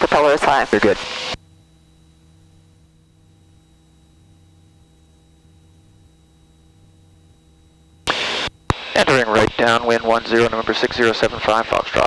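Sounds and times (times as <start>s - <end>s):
constant electronic tones: 0.0s - 12.0s.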